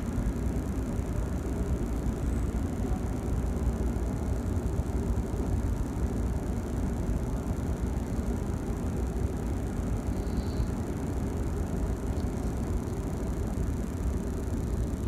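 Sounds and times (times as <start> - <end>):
train passing low rumble: 0.0 - 15.0.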